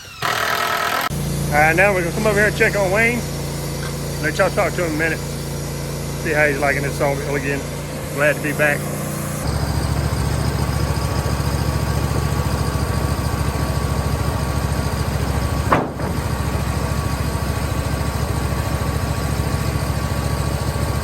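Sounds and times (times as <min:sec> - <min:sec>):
sawmill engine throbbing: 0:00.0 - 0:21.0.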